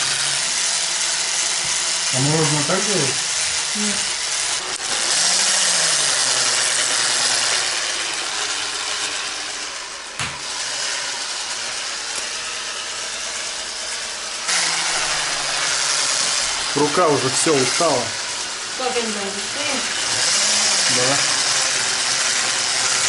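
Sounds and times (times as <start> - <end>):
electric blender whirring: 0.0 - 23.0.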